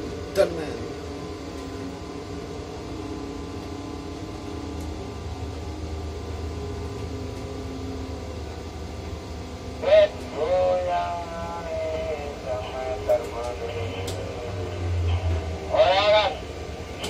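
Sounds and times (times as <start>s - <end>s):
crane machinery humming: 0.0s - 17.0s.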